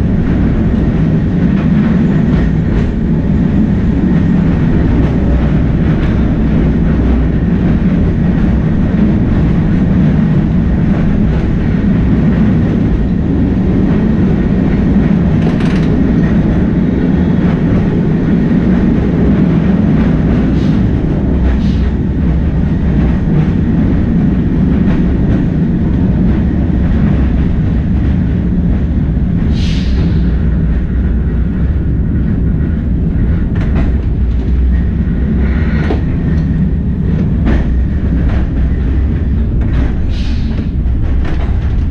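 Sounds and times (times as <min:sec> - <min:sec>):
tram motors and wheels rumbling: 0:00.0 - 0:41.9.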